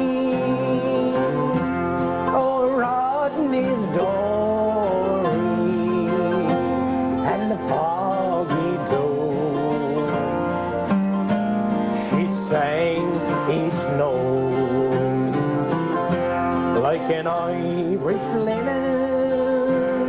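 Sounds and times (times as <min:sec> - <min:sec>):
man singing: 0:00.0 - 0:10.7, 0:11.8 - 0:20.0
acoustic guitar: 0:00.0 - 0:20.0.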